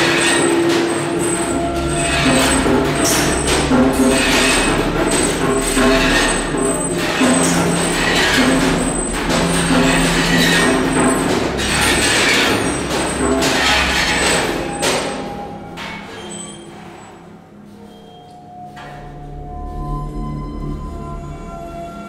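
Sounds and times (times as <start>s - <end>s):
steady low drone: 0.0s - 16.1s, 18.8s - 22.0s.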